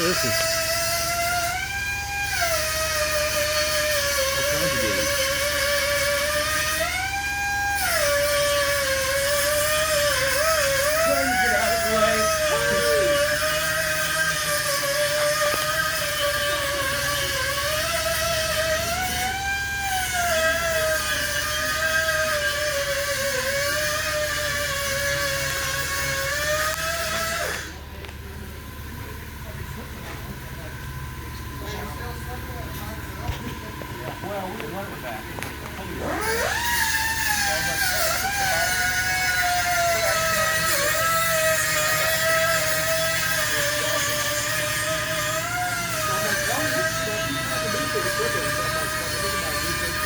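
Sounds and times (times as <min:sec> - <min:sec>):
car engine revving with whine: 0:00.0 - 0:50.0.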